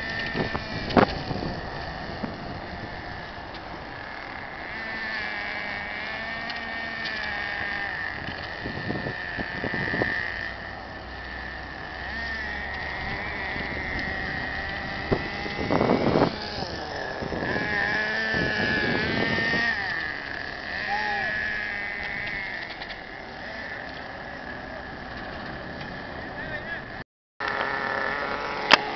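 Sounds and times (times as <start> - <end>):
burst of rough noise: 0.0 - 26.8
electric motors whining: 0.0 - 28.9.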